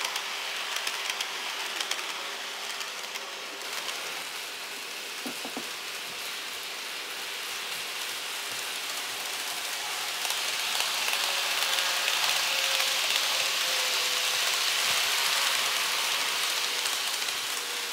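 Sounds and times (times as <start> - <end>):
model train wheels rattling: 0.0 - 17.9.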